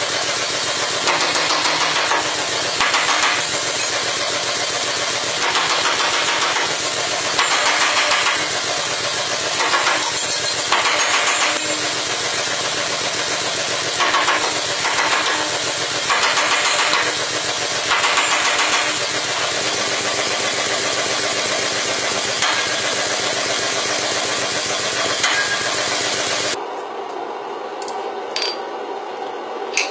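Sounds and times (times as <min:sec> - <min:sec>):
machinery drone and hum: 0:00.0 - 0:29.9.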